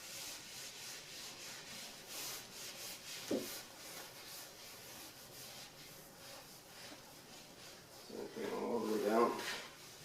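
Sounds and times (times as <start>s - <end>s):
gloved hand rubbing fabric: 0.0s - 10.0s.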